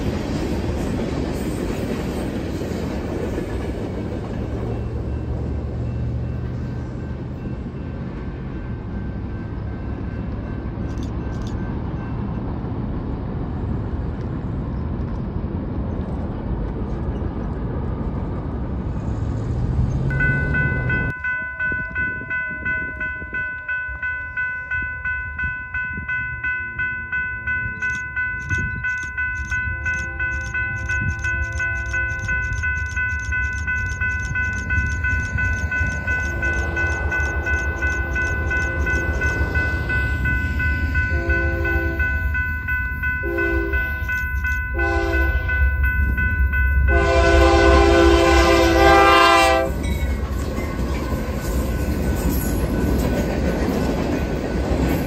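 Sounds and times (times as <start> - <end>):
crossing warning bell ringing: 0.0 - 13.0, 19.7 - 55.0
freight train wheels rumbling on rails: 0.0 - 55.0.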